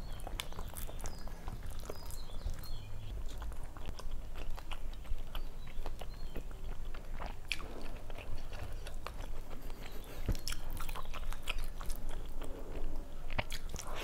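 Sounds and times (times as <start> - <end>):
wet mouth chewing: 0.0 - 14.0.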